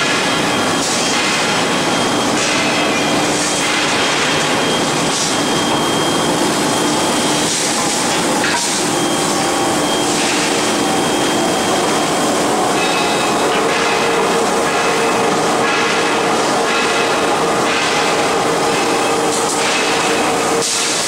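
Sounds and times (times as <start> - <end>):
rolling mill machinery din: 0.0 - 21.0.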